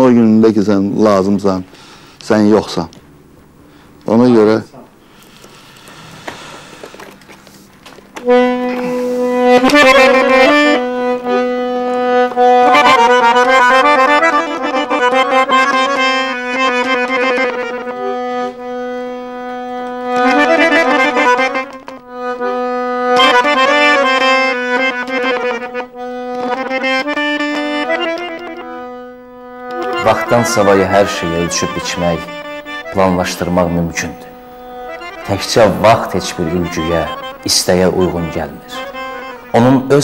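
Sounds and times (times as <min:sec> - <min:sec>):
accordion melody with drone: 0:00.0 - 0:40.0.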